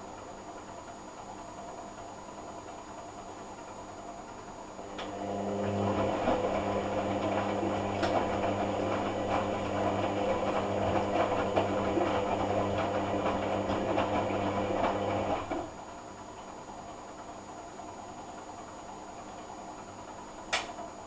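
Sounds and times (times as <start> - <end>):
washing machine motor humming: 0.9 - 4.1, 4.8 - 16.2, 17.4 - 21.0.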